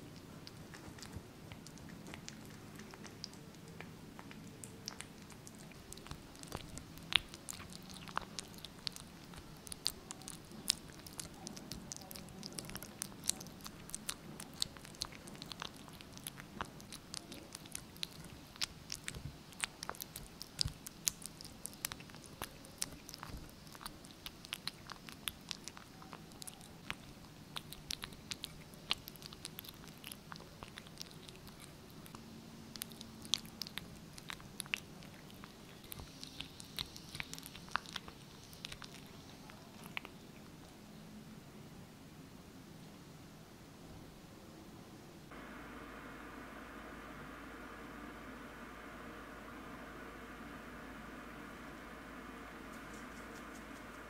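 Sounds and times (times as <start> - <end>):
kitten chewing and licking: 0.0 - 41.0, 45.3 - 54.0.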